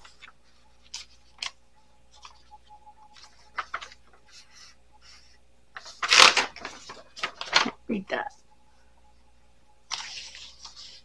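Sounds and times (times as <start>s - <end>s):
paper rustling: 0.0s - 7.8s, 9.9s - 11.0s.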